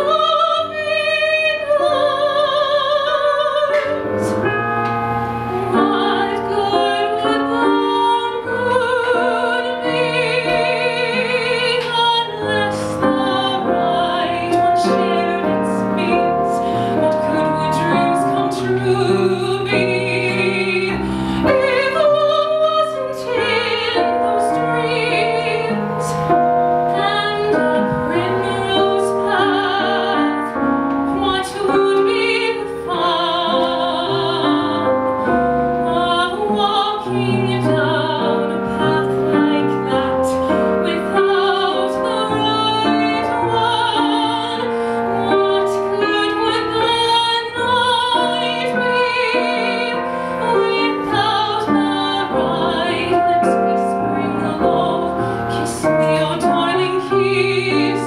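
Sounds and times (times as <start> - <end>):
piano accompaniment: 0.0 - 58.0
woman singing operatic ballad: 0.0 - 58.0.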